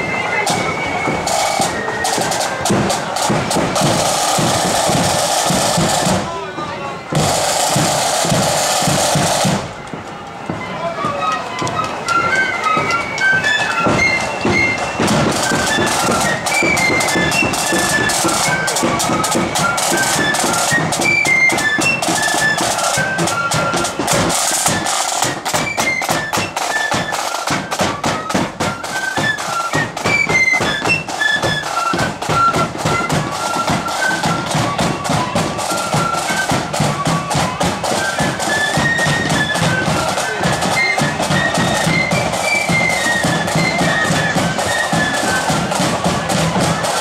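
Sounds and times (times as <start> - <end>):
flute melody: 0.0 - 47.0
snare drum rolls: 0.0 - 47.0.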